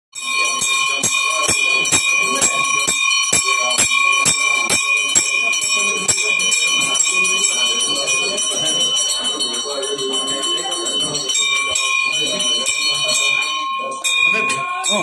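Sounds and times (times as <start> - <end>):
temple bells ringing: 0.2 - 15.0.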